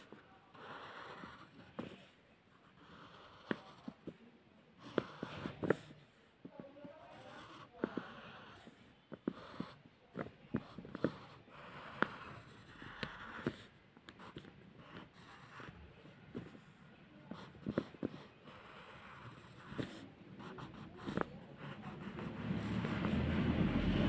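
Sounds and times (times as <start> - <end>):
pencil scratching on paper: 0.0 - 24.0.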